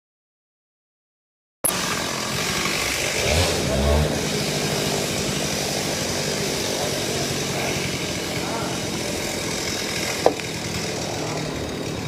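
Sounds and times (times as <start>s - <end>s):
small engine running: 1.6s - 12.0s.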